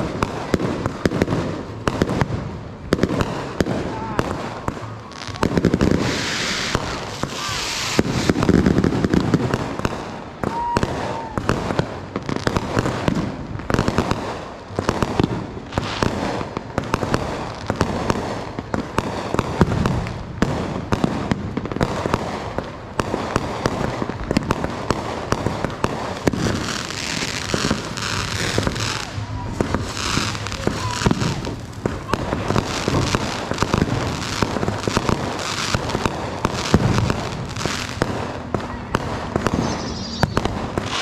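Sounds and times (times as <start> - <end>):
fireworks crackling: 0.0 - 41.0
heavy firework bursts: 0.0 - 41.0.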